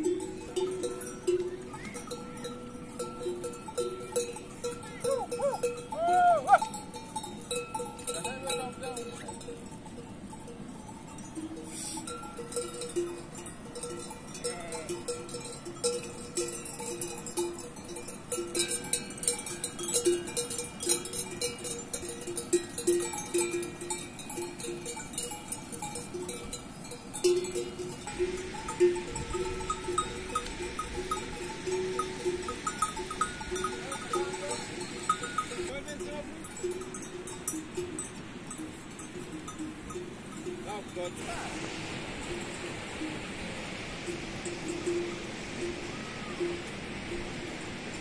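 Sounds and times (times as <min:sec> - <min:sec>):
livestock bells clanking: 0:00.0 - 0:48.0.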